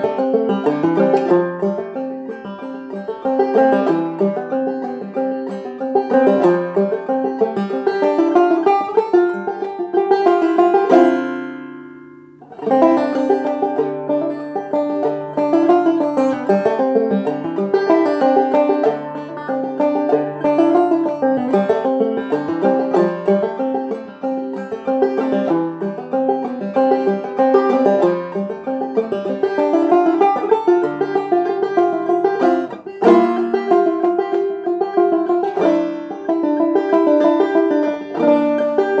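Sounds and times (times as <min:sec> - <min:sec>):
banjo picking melodic tune: 0:00.0 - 0:39.0.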